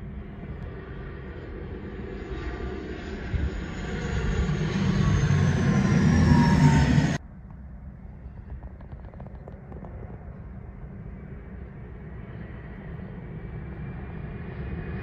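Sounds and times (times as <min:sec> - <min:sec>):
turboprop plane passing overhead: 0:00.0 - 0:15.0.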